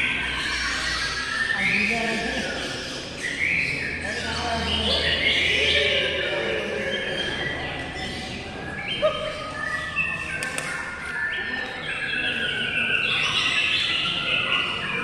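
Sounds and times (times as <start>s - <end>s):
songbirds chirping and singing: 0.0s - 15.0s.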